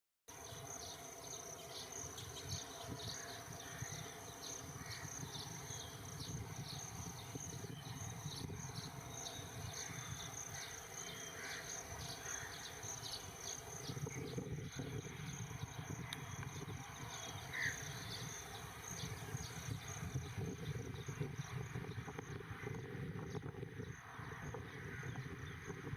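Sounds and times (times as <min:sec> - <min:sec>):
insects chirping: 0:00.3 - 0:25.9.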